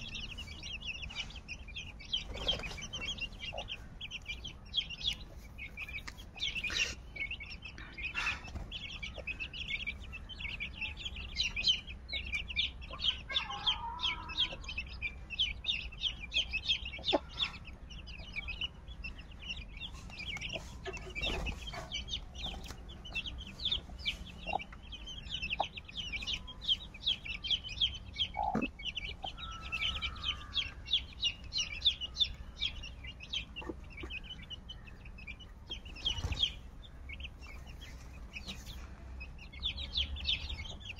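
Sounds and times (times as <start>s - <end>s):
chicks peeping: 0.0s - 40.9s
hen clucking: 0.0s - 40.9s.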